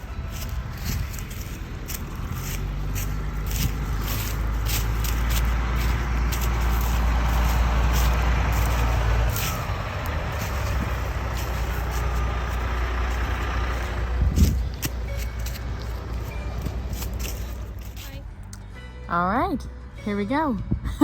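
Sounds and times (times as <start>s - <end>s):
heavy machine rumbling: 0.0s - 20.8s.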